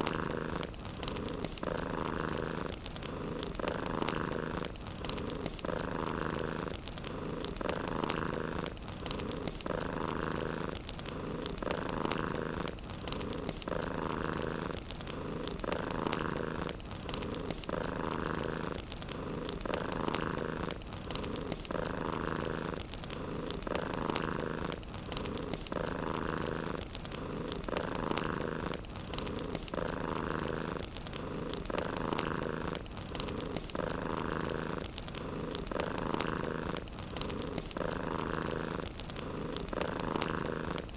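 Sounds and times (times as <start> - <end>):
cat purring: 0.0 - 40.9
wood fire crackling: 0.0 - 40.9.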